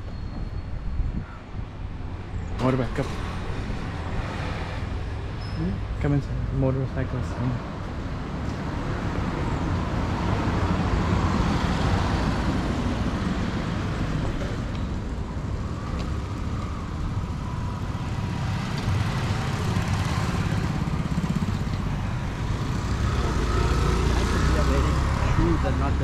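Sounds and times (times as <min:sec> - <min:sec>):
vehicles passing by: 0:00.7 - 0:26.0.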